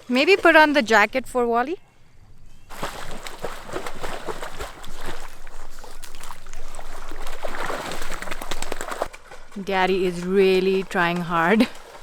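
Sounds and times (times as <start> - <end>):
water splashing and sloshing: 0.0 - 1.4, 2.7 - 12.0.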